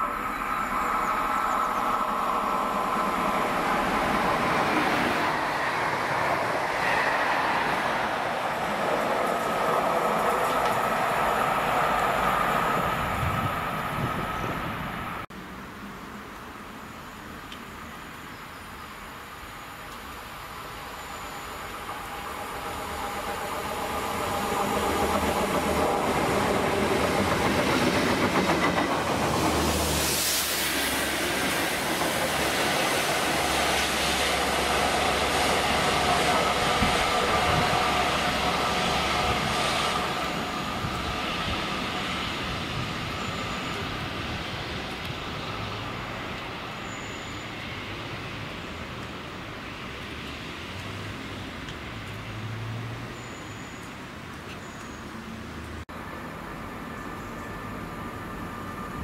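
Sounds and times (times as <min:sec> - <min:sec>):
diesel locomotive passing: 0:00.0 - 0:15.7, 0:18.9 - 0:59.0.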